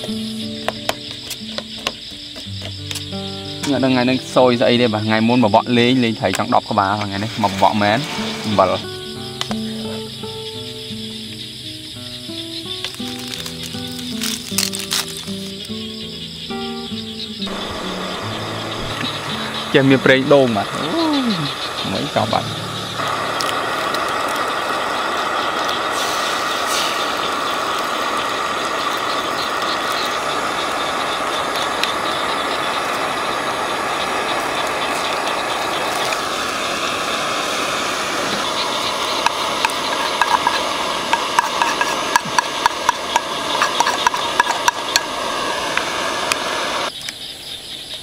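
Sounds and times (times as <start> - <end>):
gas stove hissing: 0.0 - 47.3.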